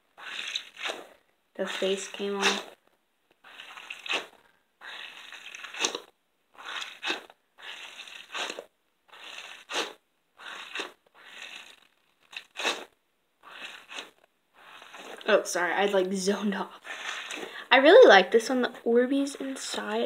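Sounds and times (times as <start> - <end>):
stress ball squishing: 0.0 - 17.6.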